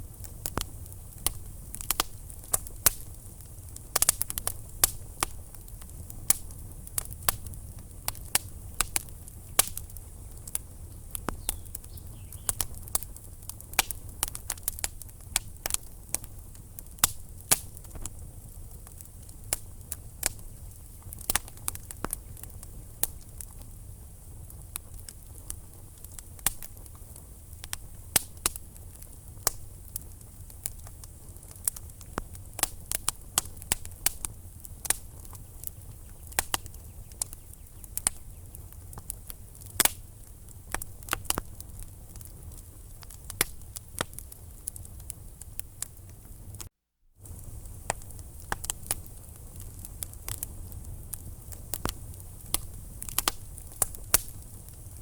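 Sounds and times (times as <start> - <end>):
fire flames rumbling: 0.0 - 55.0
logs crackling and popping: 0.0 - 55.0.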